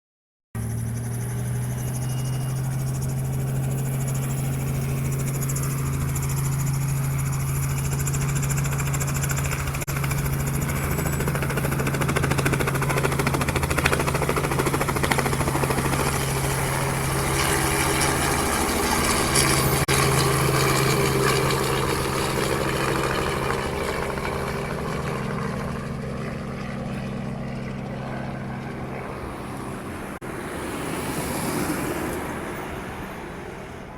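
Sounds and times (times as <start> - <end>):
helicopter flying low: 0.6 - 33.9.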